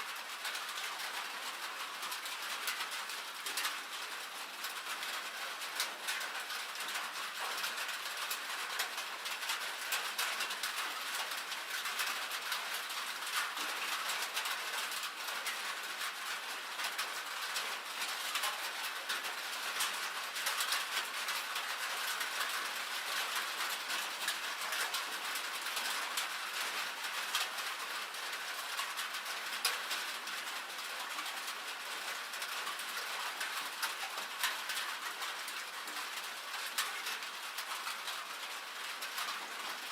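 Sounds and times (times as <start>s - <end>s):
rain and hail on metal roof: 0.0s - 39.9s.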